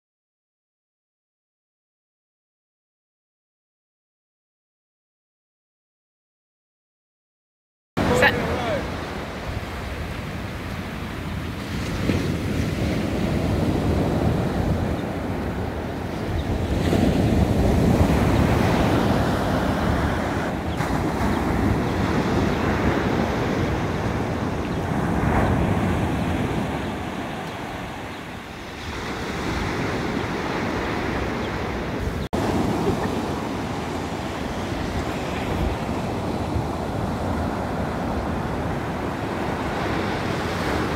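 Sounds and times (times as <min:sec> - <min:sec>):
ocean surf breaking on beach: 0:08.0 - 0:40.9
wind buffeting microphone: 0:08.0 - 0:40.9.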